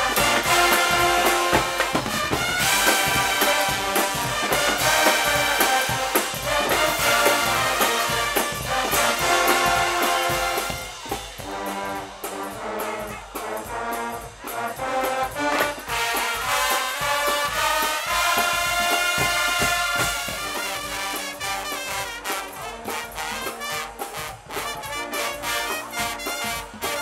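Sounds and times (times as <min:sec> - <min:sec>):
brass playing: 0:00.0 - 0:27.0
pounding drums: 0:00.0 - 0:27.0.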